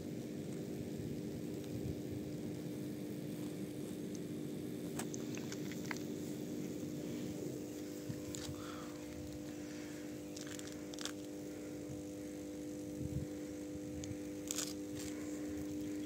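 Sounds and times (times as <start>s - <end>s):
electrical substation hum: 0.0s - 16.0s
low rumbling noise: 0.7s - 16.0s.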